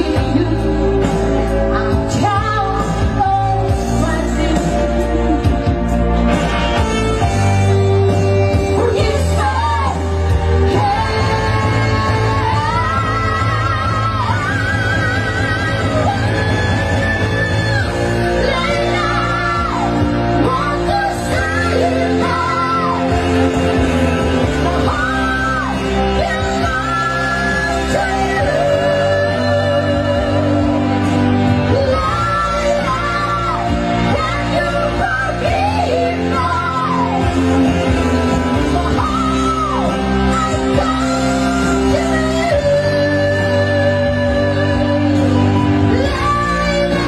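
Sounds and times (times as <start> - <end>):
women singing: 0.0 - 6.0, 7.6 - 47.0
amplified backing music: 0.0 - 47.0
live band playing: 0.0 - 47.0.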